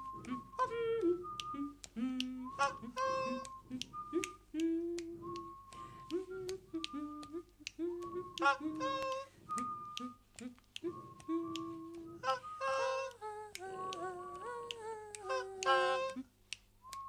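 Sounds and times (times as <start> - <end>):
sliding held melody notes: 0.0 - 16.3
finger snaps keeping a beat: 0.0 - 17.0.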